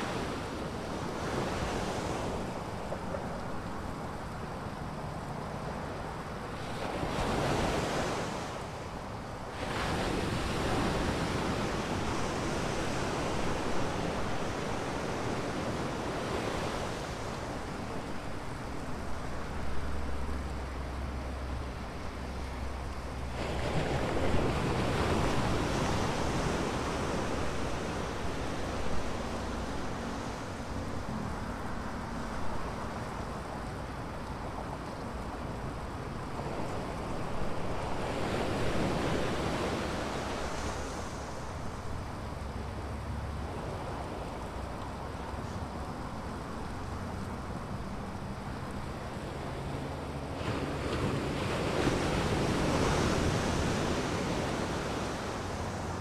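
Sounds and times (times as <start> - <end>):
surf breaking on a beach: 0.0 - 4.1, 6.0 - 19.6, 23.2 - 56.0.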